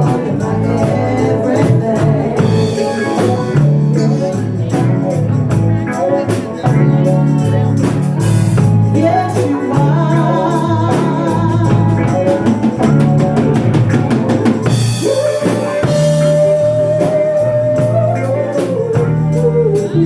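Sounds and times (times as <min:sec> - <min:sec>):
bass guitar: 0:00.0 - 0:20.0
drum kit: 0:00.0 - 0:20.0
guitar playing: 0:00.0 - 0:20.0.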